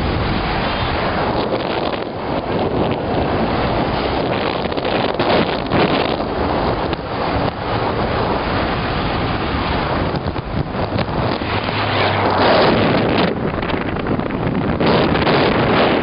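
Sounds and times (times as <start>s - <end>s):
motorbike running: 0.0s - 16.0s
wind roaring over microphone: 0.0s - 16.0s.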